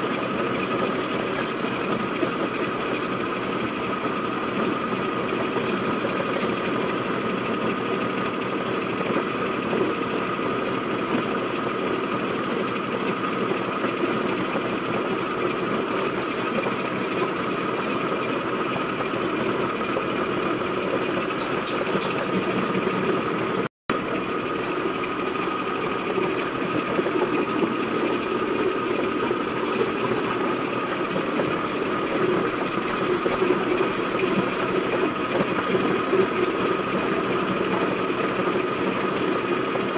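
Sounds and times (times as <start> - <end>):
grinding mill motor whine: 0.0 - 39.9.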